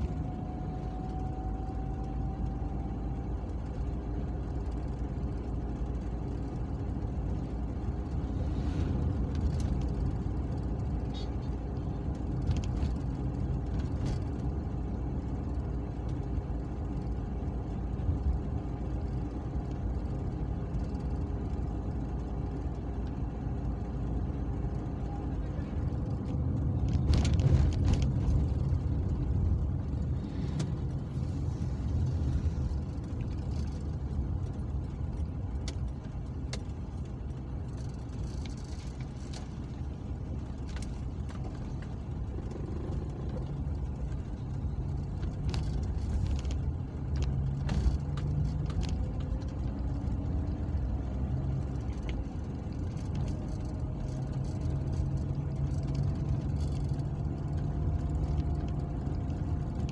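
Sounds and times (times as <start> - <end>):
car engine and road noise: 0.0 - 59.9
light clicks and rattles: 9.1 - 59.9.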